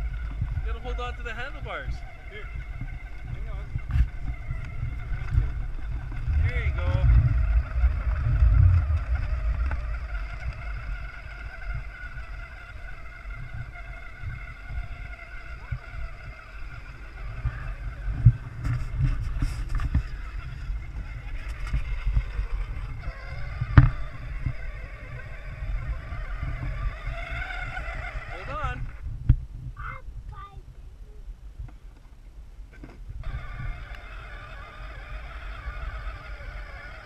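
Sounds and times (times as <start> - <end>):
toy electric motor whining: 0.0 - 29.0, 33.2 - 37.0
wind rumble on microphone: 0.0 - 37.0.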